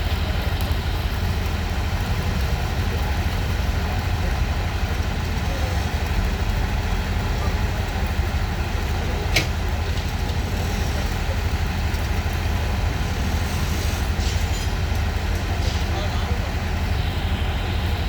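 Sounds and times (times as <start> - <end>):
rumble of passing vehicles: 0.0 - 18.0.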